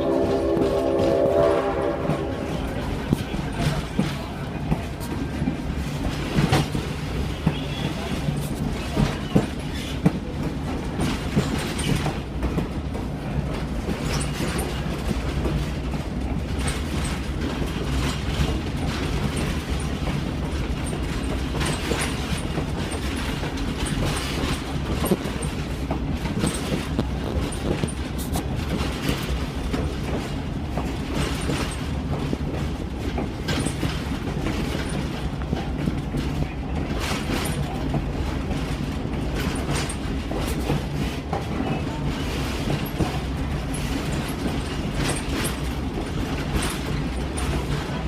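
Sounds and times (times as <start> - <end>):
train rumbling: 0.0 - 48.0
wheels clicking over rail joints: 2.2 - 48.0.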